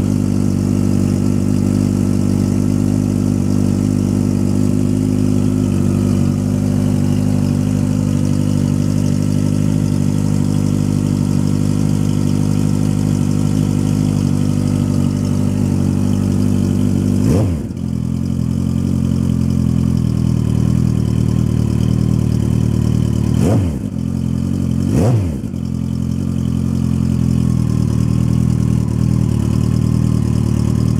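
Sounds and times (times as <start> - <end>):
motorcycle engine idling: 0.0 - 30.9
motorcycle throttle revving: 0.0 - 30.9.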